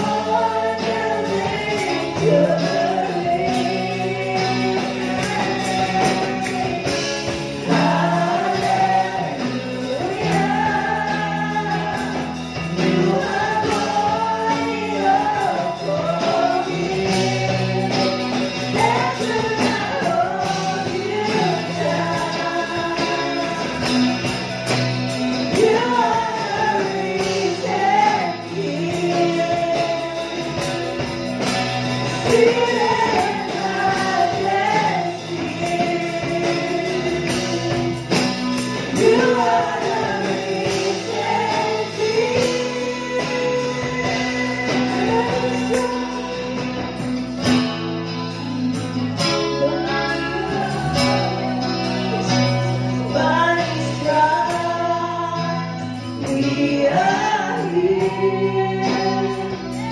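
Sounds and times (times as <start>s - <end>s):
acoustic guitar: 0.0s - 59.9s
drum kit: 0.0s - 59.9s
women singing into microphones: 0.0s - 59.9s.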